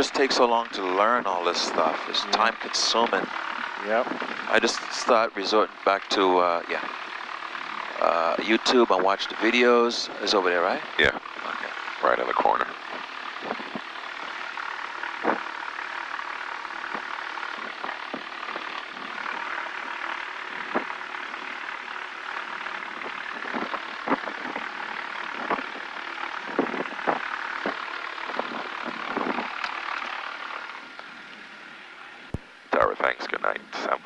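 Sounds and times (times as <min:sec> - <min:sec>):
aircraft piston engines: 0:00.0 - 0:34.0.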